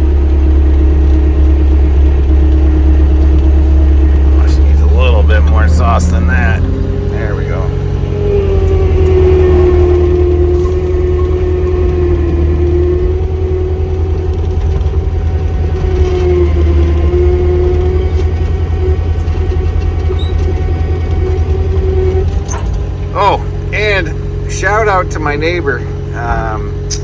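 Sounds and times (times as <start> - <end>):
diesel engine running hard: 0.0 - 27.0.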